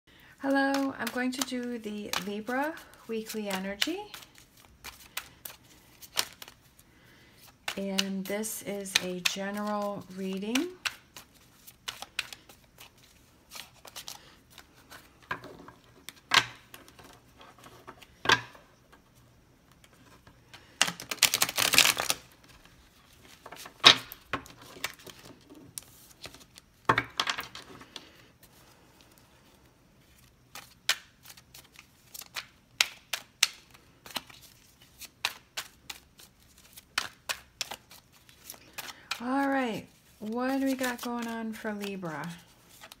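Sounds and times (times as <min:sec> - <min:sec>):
cards being shuffled: 0:00.5 - 0:18.2, 0:19.7 - 0:43.0.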